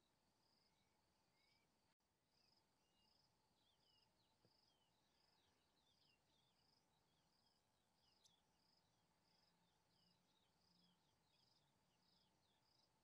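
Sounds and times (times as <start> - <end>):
insect chirping steadily: 0.0 - 13.0.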